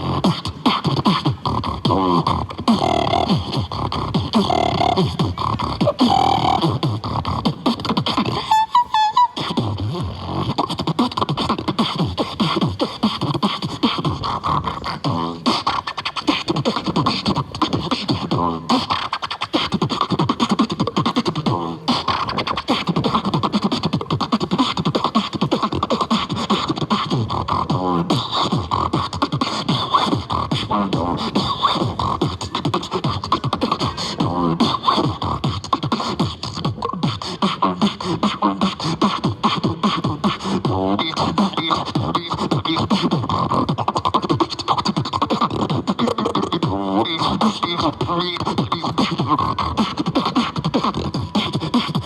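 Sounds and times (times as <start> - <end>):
person beatboxing: 0.0 - 52.0.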